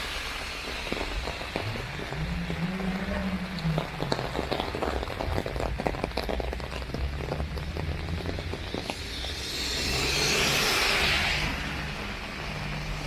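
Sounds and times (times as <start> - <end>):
rain drumming on an umbrella: 0.0 - 13.0
vehicle tyres on wet road: 0.0 - 13.0.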